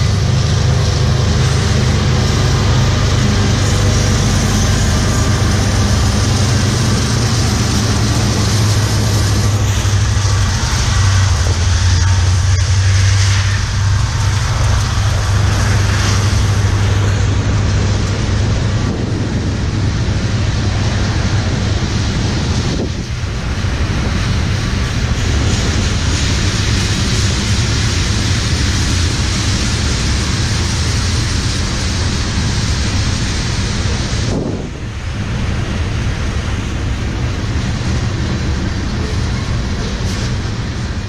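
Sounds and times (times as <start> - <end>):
diesel locomotive engine drone: 0.0 - 41.0
train wheels rumbling on rails: 0.0 - 41.0.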